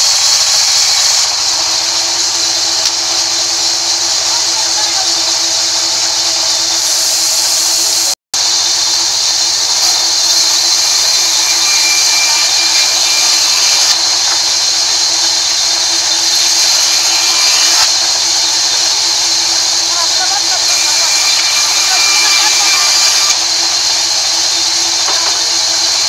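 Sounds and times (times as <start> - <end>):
band saw cutting wood: 0.0 - 26.0.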